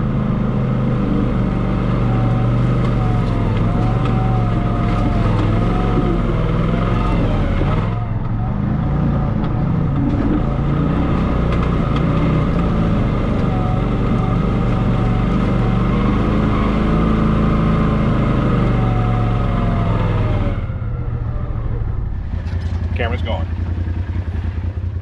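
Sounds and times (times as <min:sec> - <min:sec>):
small off-road vehicle engine: 0:00.0 - 0:25.0.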